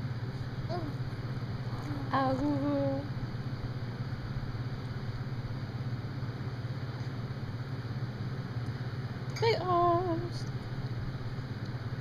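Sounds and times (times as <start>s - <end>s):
machine hum with fast flutter: 0.0s - 12.0s.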